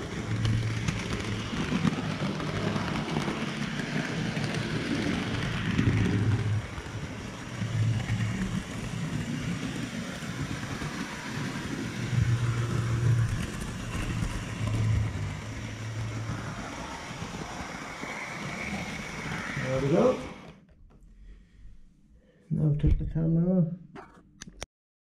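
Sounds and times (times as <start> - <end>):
model train wheels rumbling: 0.0 - 20.6
low motor hum: 0.0 - 21.0.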